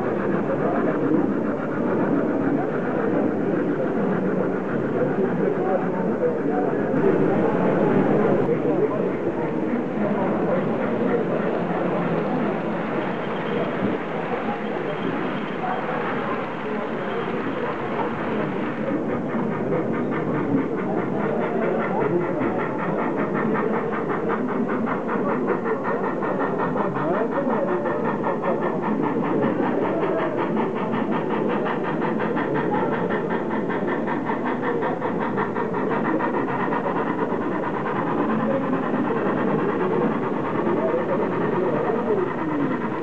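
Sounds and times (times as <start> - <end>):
model train whirring and ticking: 0.0 - 43.0.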